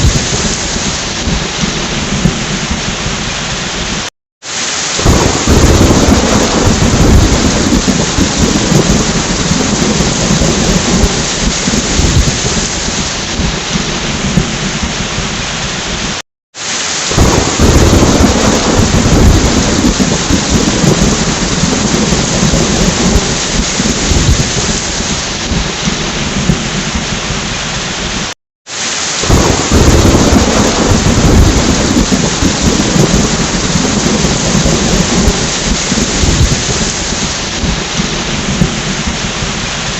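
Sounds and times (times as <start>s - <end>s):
thunder rumbling: 0.0s - 4.1s, 4.9s - 16.2s, 17.0s - 28.3s, 29.2s - 39.9s
heavy rain falling: 0.0s - 39.9s.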